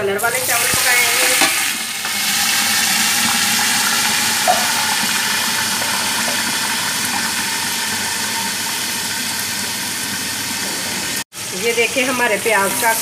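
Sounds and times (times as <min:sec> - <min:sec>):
onions sizzling in pot: 0:00.1 - 0:13.0.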